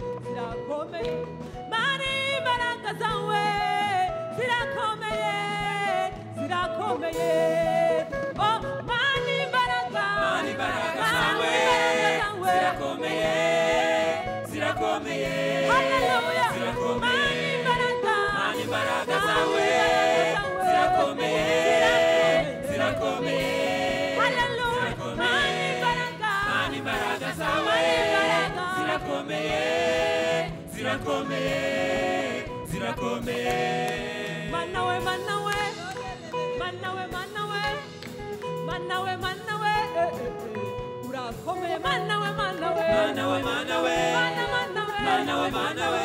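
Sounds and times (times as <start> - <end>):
instrumental backing music: 0.0 - 46.0
group singing gospel song: 5.0 - 40.7, 41.3 - 46.0.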